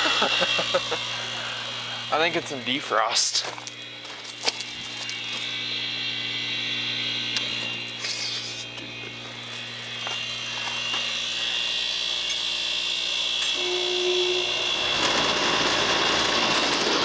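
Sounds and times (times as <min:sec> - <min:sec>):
compressor humming with high whine: 0:00.0 - 0:17.0.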